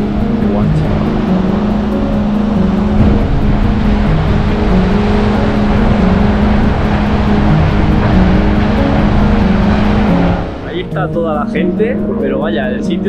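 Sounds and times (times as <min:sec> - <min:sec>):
held low notes: 0:00.0 - 0:13.0
steady ticking beat: 0:00.0 - 0:13.0.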